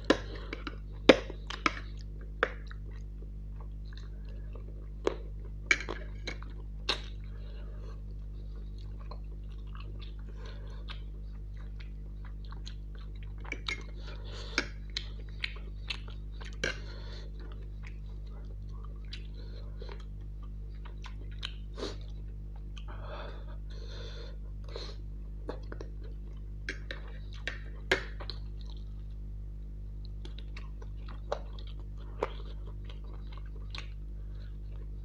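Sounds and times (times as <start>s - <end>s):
chewing noodles: 0.0s - 23.0s, 24.3s - 29.3s, 30.0s - 35.0s.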